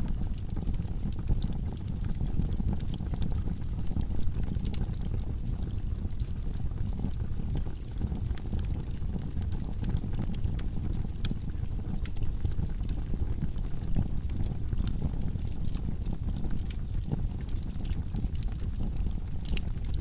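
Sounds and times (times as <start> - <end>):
fireplace flames rumbling: 0.0 - 20.0
wood fire crackling and popping: 0.0 - 20.0.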